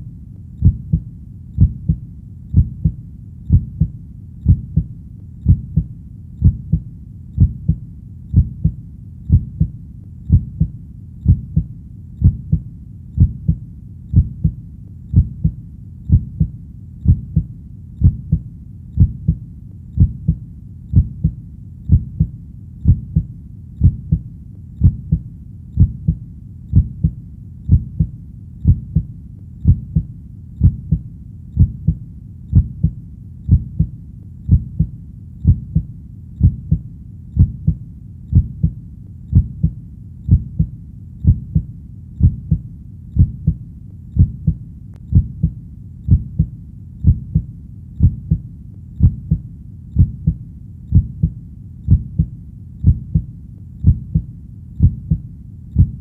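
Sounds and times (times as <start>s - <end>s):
faint low background noise: 0.0s - 56.0s
heartbeat: 0.0s - 56.0s.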